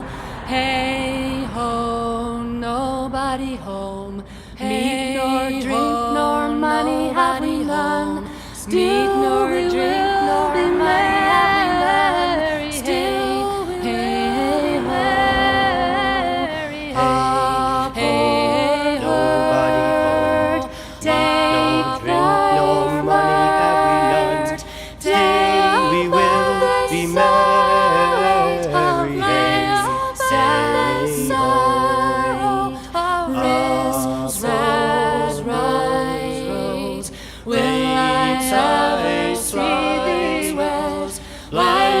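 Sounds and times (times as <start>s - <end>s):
voices singing in harmony: 0.0s - 42.0s.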